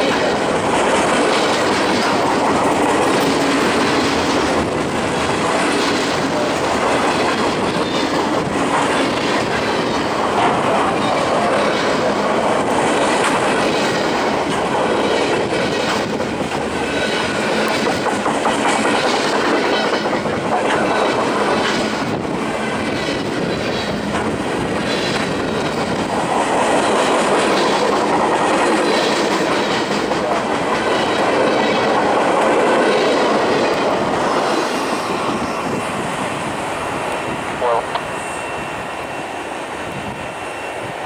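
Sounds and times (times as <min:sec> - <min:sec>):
wheels clacking over rail joints: 0:00.0 - 0:35.4
freight train passing: 0:00.0 - 0:41.0.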